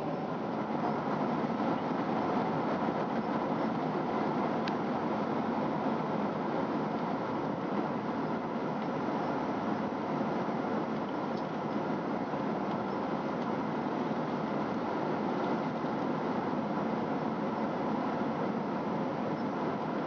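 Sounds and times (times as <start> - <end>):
airplane cabin noise: 0.0 - 20.0.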